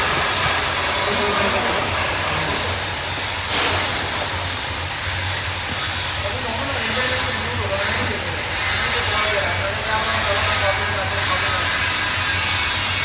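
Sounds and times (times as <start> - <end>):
hot-air welding machine hissing: 0.0 - 13.0.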